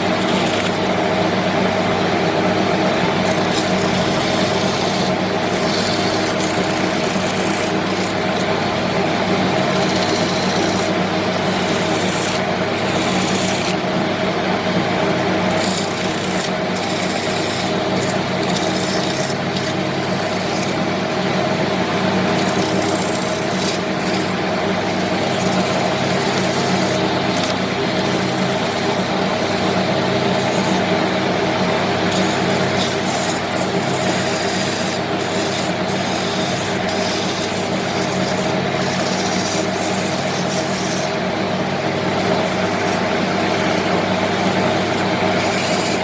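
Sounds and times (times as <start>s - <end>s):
rough rasping scrape on wood: 0.0s - 1.0s, 2.9s - 13.9s, 14.8s - 41.4s, 42.0s - 46.0s
wood lathe motor hum: 0.0s - 46.0s.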